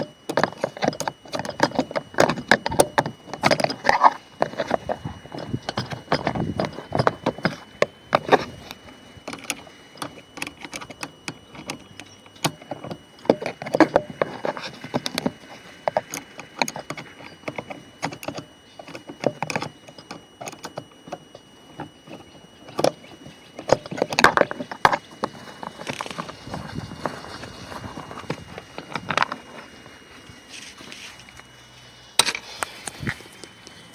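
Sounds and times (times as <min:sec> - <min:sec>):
clicks and rattles of car trim parts: 0:00.0 - 0:29.7.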